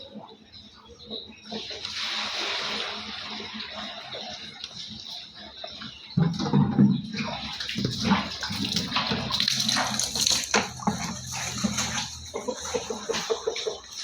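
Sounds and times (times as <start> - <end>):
water splashing and sloshing: 0.2 - 14.0.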